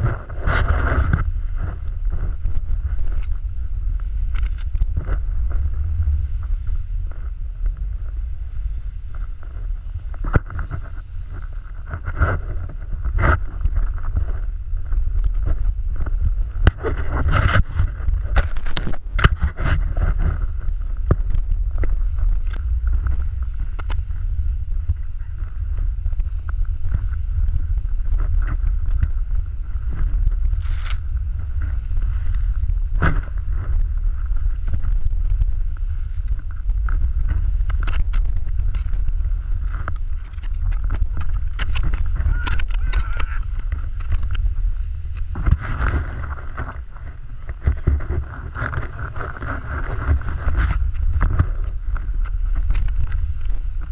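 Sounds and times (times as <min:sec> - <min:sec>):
snowboard scraping through snow: 0:00.0 - 0:53.9
wind rumble on microphone: 0:00.0 - 0:53.9.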